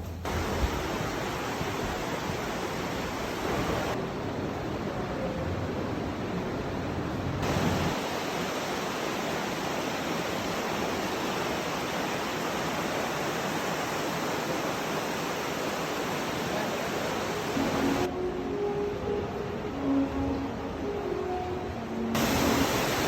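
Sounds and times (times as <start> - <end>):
river water rushing: 0.3 - 18.1, 22.0 - 23.0.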